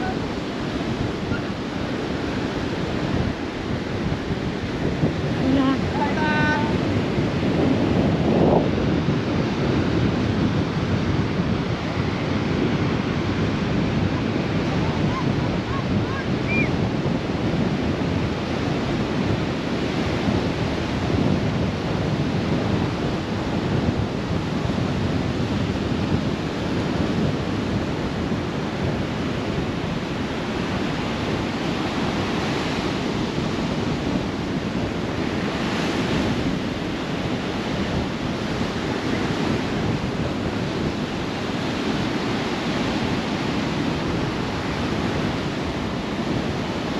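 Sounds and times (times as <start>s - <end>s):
waves breaking on beach: 0.0s - 46.9s
wind buffeting microphone: 0.0s - 46.9s.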